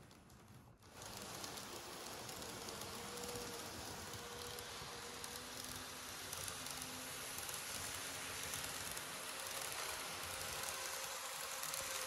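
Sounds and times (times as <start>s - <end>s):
model train wheels and motor hissing: 0.0s - 12.0s.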